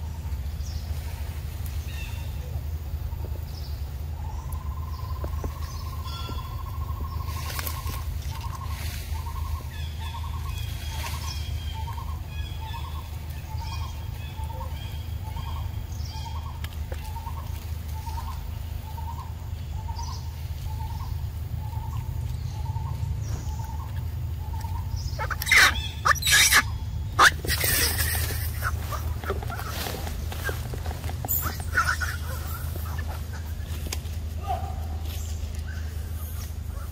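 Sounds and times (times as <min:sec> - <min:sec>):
steady low rumble: 0:00.0 - 0:36.9.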